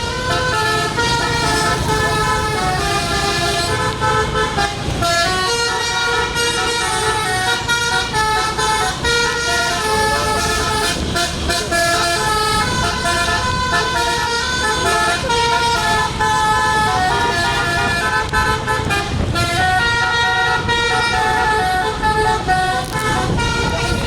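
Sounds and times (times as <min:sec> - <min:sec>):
low vehicle noise: 0:00.0 - 0:24.0
multi-tone bus horn tune: 0:00.0 - 0:24.0.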